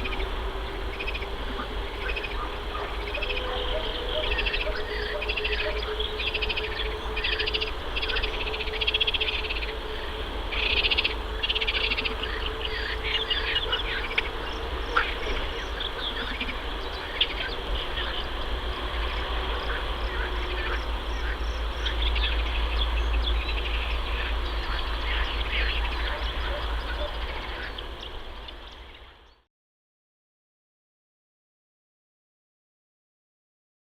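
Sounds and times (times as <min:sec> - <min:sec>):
rapid high trilling calls: 0:00.0 - 0:29.0
ducklings peeping: 0:00.0 - 0:29.4
low steady rumble: 0:00.0 - 0:29.4.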